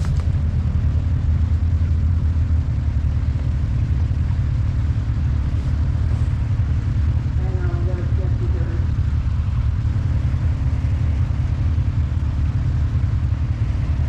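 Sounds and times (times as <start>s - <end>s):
atv engine rumbling: 0.0s - 14.0s.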